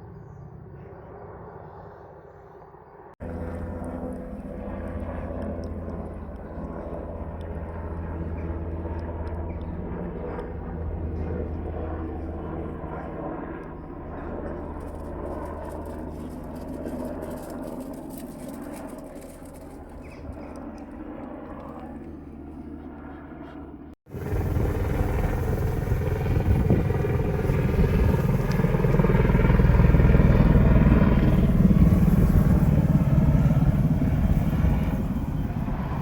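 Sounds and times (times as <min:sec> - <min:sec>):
helicopter rotor throb: 0:02.7 - 0:36.0.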